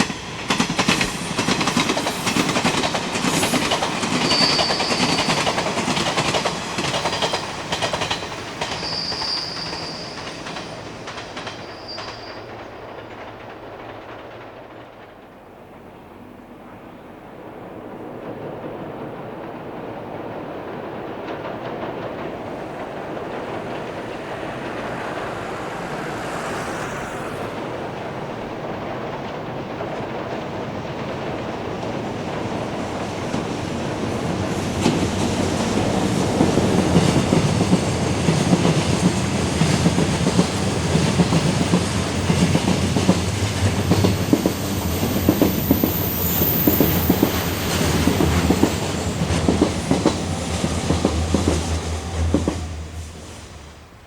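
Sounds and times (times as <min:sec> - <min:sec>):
wheels clacking over rail joints: 0:00.0 - 0:16.3, 0:18.1 - 0:53.1
train rumbling past: 0:00.0 - 0:54.0.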